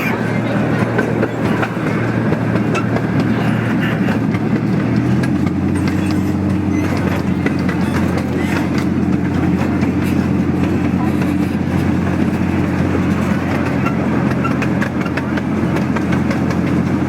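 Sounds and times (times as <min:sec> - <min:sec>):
miniature train engine drone: 0:00.0 - 0:17.0
wheels clicking on track: 0:00.0 - 0:17.0.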